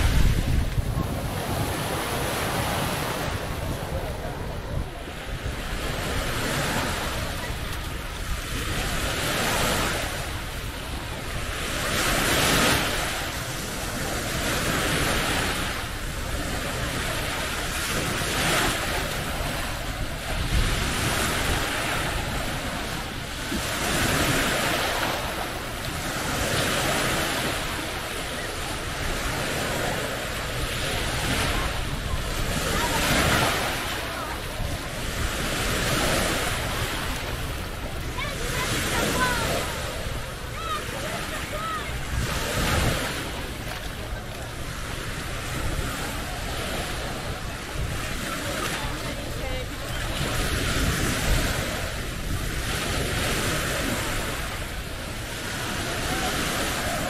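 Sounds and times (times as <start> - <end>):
small waves breaking on shore: 0.0 - 57.0.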